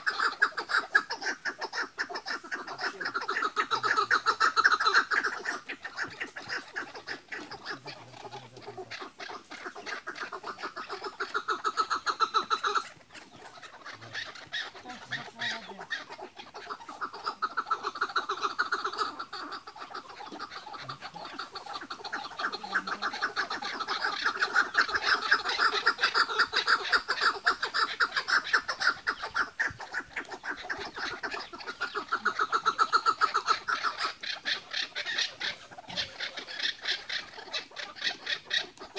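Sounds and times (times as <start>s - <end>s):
partridges calling: 0.0s - 38.9s.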